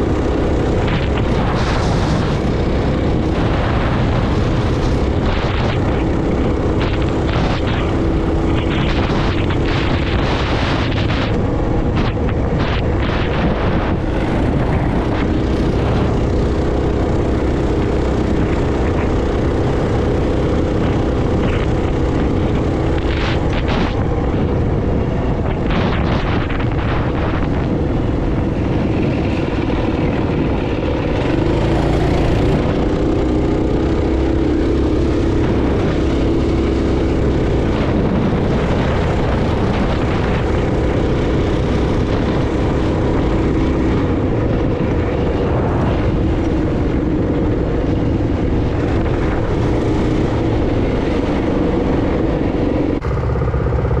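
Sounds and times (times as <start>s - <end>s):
small motorcycle engine running: 0.0s - 54.0s
wind noise on microphone: 0.0s - 54.0s.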